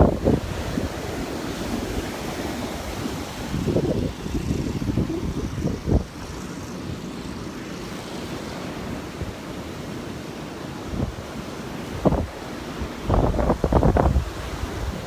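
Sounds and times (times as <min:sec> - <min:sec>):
wind buffeting microphone: 0:00.0 - 0:10.2, 0:10.8 - 0:15.0.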